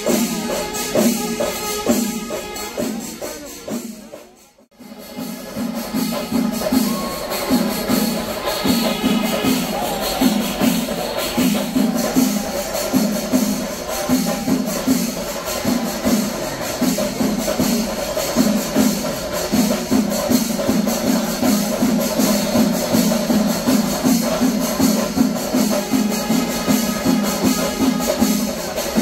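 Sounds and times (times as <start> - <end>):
hand cymbals: 0.0 - 29.0
massed drums playing: 0.0 - 29.0.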